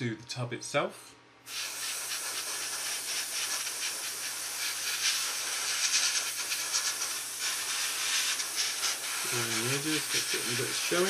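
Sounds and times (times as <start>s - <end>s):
airbrush spraying hiss: 1.5s - 11.0s.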